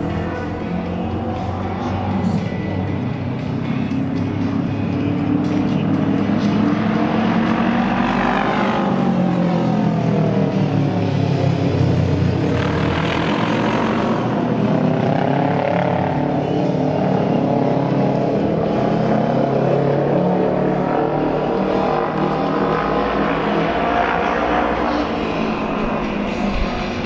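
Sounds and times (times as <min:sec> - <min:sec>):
racing motorcycle engines revving: 0:00.0 - 0:27.0.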